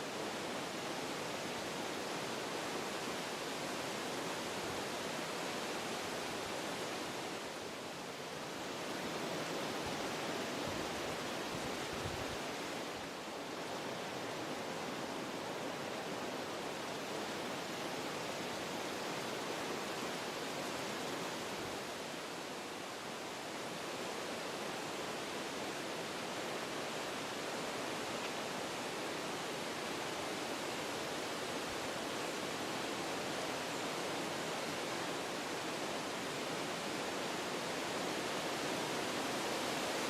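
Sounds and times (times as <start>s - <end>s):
wind blowing through trees: 0.0s - 40.0s.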